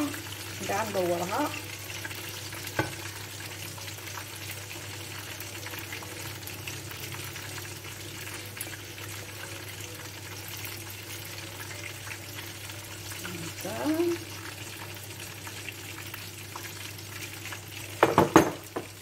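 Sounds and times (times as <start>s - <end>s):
sauce bubbling and crackling: 0.0s - 19.0s.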